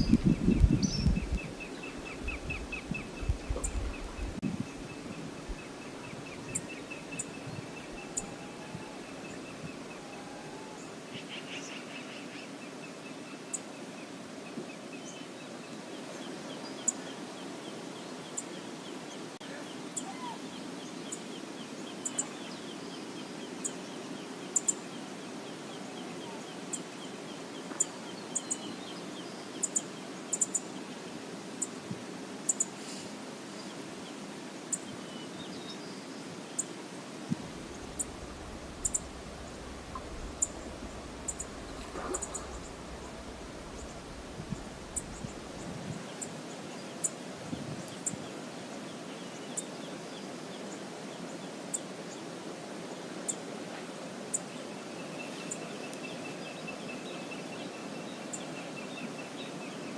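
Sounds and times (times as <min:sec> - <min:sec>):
river water flowing: 0:01.3 - 0:59.9.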